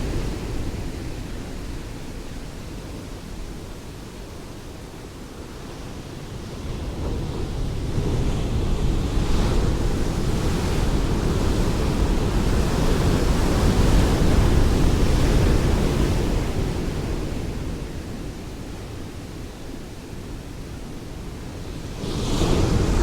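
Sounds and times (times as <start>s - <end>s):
ocean waves breaking on shore: 0.0s - 23.0s.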